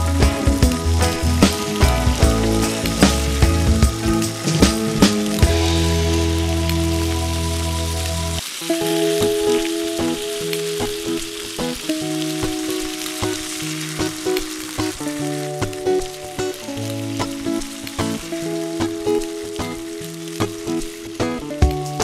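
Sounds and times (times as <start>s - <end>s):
background music with held notes: 0.0s - 22.0s
meat sizzling in a frying pan: 0.0s - 22.0s.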